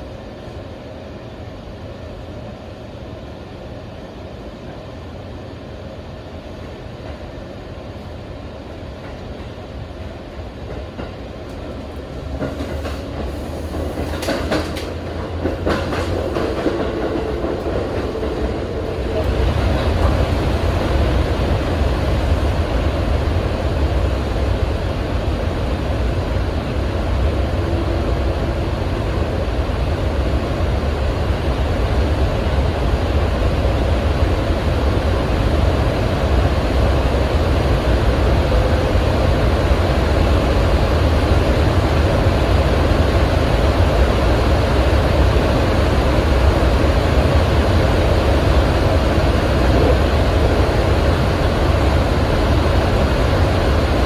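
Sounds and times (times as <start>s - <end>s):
electric train rumble from inside: 0.0s - 54.0s.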